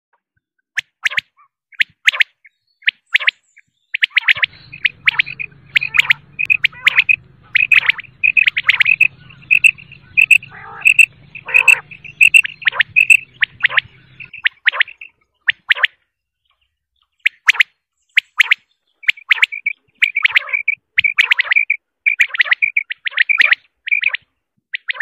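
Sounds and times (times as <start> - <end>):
quail calling: 1.1 - 16.0, 17.2 - 25.0.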